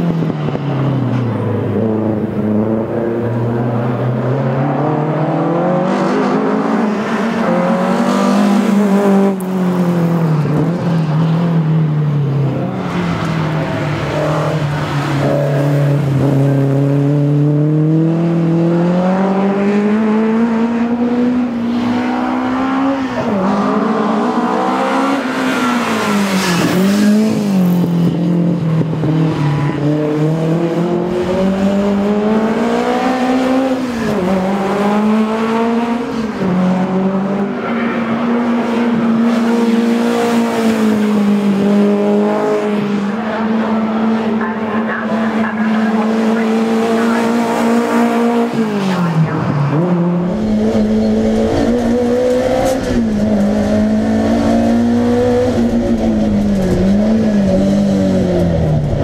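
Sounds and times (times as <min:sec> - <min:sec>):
race car engine revving: 0:00.2 - 0:59.0.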